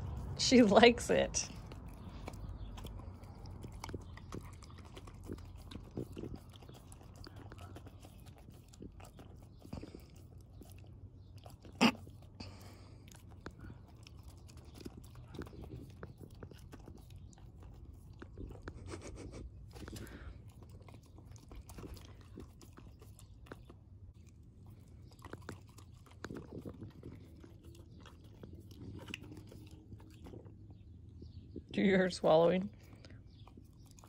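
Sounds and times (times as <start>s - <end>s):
puppy licking and chewing: 0.0s - 34.0s.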